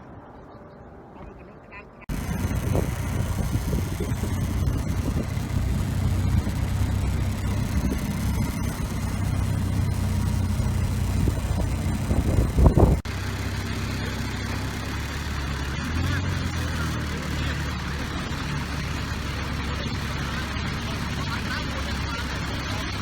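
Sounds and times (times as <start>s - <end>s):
boat motor humming: 2.1s - 23.0s.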